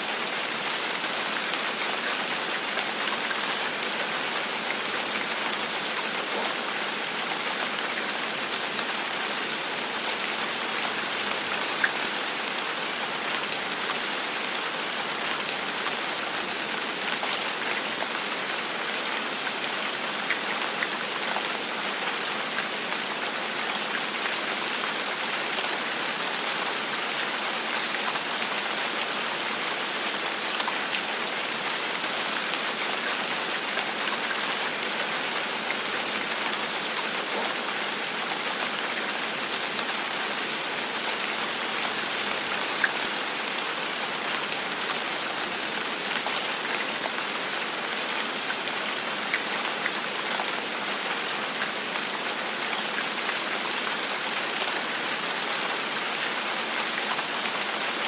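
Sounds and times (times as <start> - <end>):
gentle rain falling: 0.0 - 58.0.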